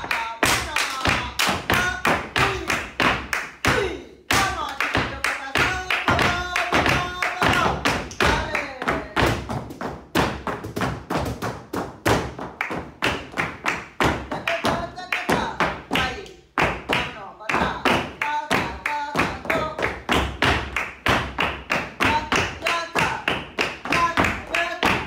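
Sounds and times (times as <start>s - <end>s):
dance shoes stamping and tapping: 0.0s - 25.0s.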